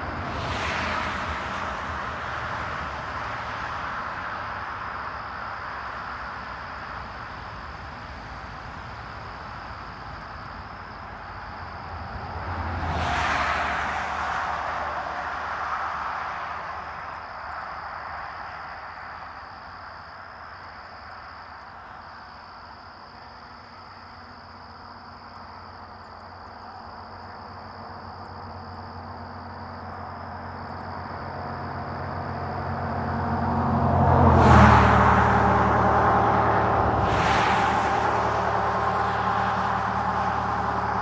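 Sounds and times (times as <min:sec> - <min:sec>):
car passing on highway: 0:00.0 - 0:41.0
traffic: 0:00.0 - 0:41.0.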